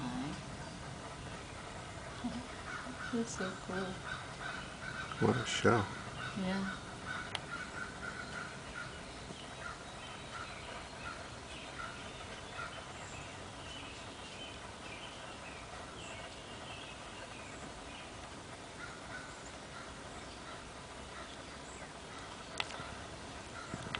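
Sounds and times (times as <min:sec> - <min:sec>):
faint bird chirps and chatter: 0:00.0 - 0:23.9
steady outdoor hiss: 0:00.0 - 0:23.9.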